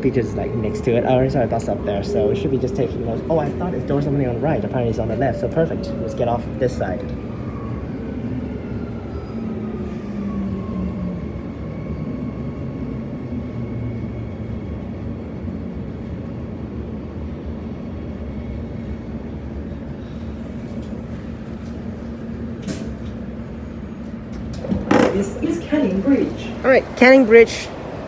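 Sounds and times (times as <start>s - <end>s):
train rumble and hum: 0.0s - 28.0s.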